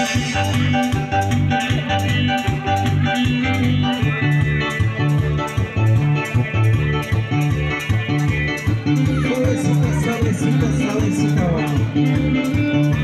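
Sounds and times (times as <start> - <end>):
bouncing bass line: 0.0 - 13.0
live dance band playing: 0.0 - 13.0.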